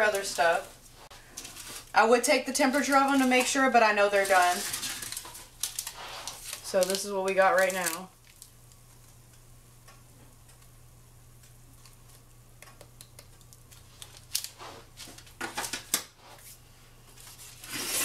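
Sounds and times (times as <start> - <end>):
low steady hum: 0.0 - 17.7.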